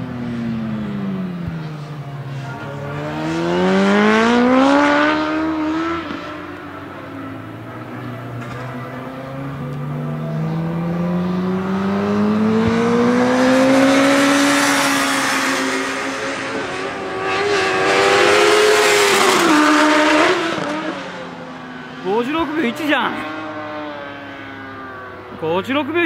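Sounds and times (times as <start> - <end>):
motorcycle engine revving: 0.0 - 25.4.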